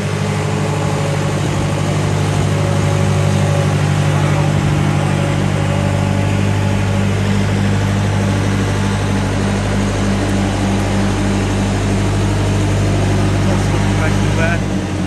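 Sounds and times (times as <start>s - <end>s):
boat hoist engine humming: 0.0s - 15.0s.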